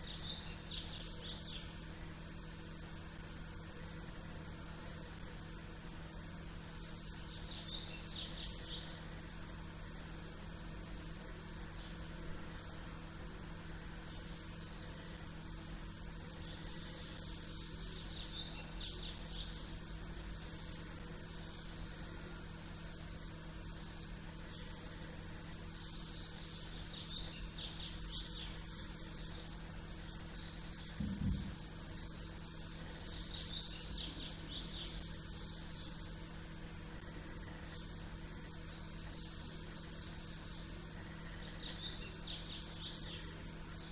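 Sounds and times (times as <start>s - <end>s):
low background hum: 0.0s - 43.9s
small birds chirping: 0.0s - 43.9s.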